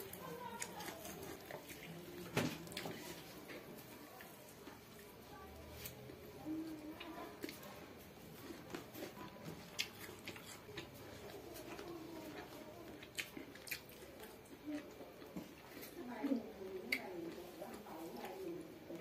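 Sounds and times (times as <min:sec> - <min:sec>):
wet chewing: 0:00.0 - 0:19.0.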